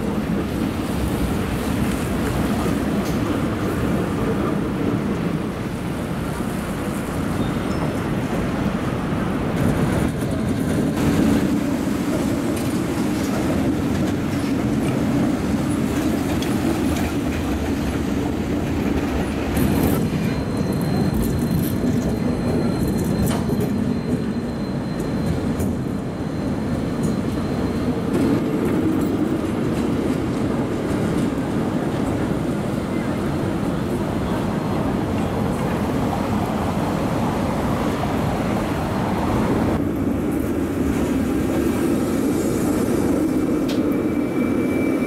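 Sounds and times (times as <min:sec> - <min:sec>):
trams rumbling on track: 0:00.0 - 0:45.0.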